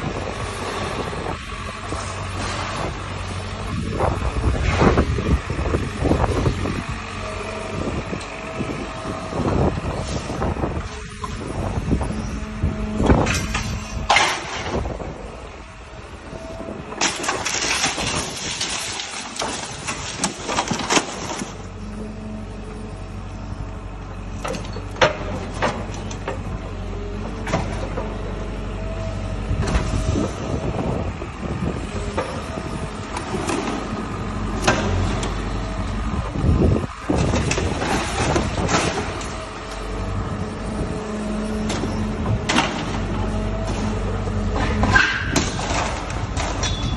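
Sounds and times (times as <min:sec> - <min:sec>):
excavator tearing metal: 0:00.0 - 0:15.7, 0:16.3 - 0:21.9, 0:24.4 - 0:28.3, 0:29.5 - 0:46.9
excavator engine running: 0:00.0 - 0:46.9.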